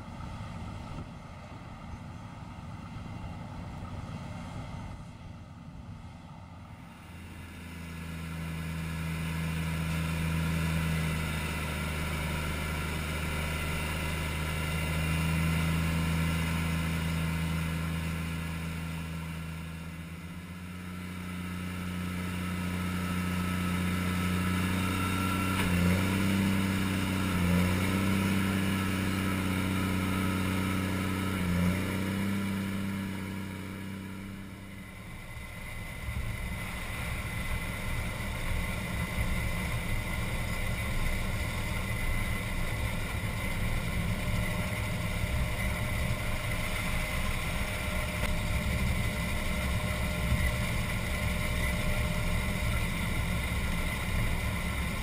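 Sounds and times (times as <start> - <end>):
heavy diesel engines droning: 0.0 - 55.0.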